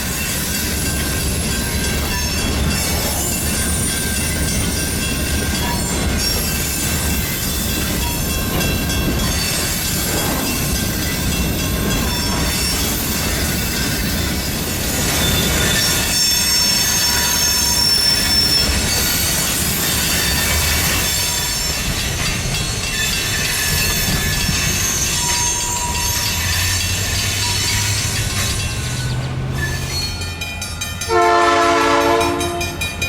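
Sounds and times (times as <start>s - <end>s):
freight train rumbling: 0.0s - 33.0s
wheels squealing: 0.1s - 31.0s.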